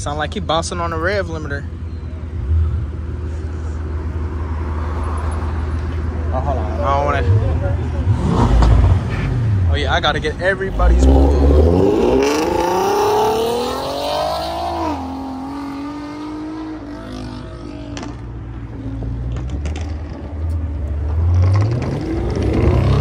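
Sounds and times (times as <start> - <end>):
car engines accelerating hard: 2.3 - 23.0.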